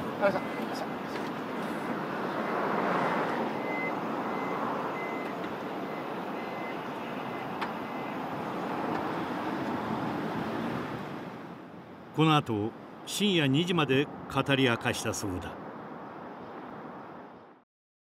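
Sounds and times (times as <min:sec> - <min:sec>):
street traffic noise: 0:00.0 - 0:17.6.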